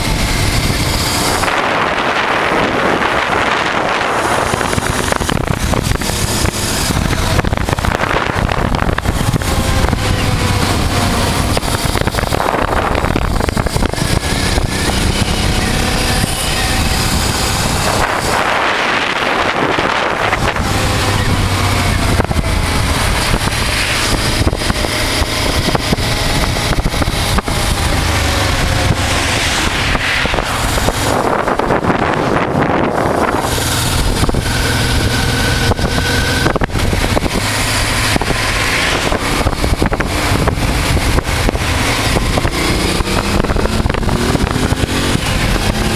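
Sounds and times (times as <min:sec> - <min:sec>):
motorcycle engine running: 0:00.0 - 0:45.9
wind on microphone: 0:00.0 - 0:45.9.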